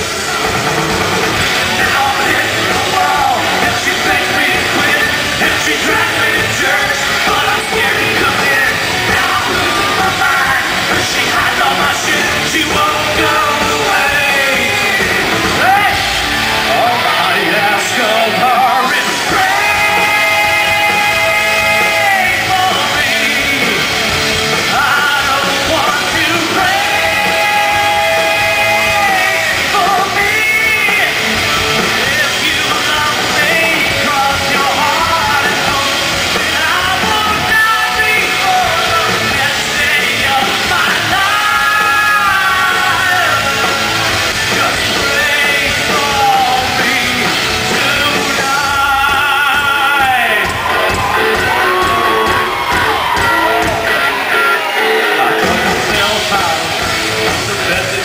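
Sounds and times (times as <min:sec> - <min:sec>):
rock band playing live: 0:00.0 - 0:58.0
person singing long notes: 0:01.4 - 0:24.0, 0:24.6 - 0:58.0.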